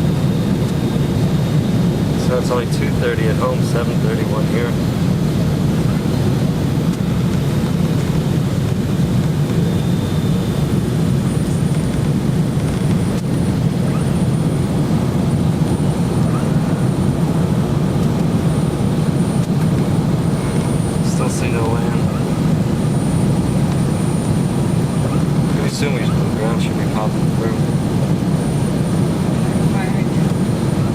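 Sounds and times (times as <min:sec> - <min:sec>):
jet engine and airflow noise: 0:00.0 - 0:30.9.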